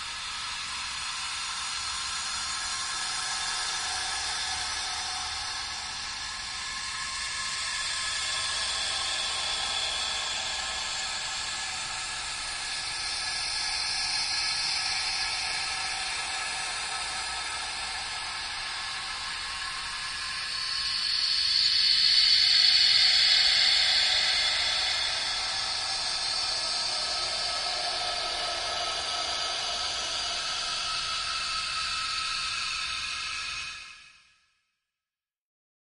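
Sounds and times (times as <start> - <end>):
airy hissing noise: 2.8 - 13.1, 14.8 - 33.8.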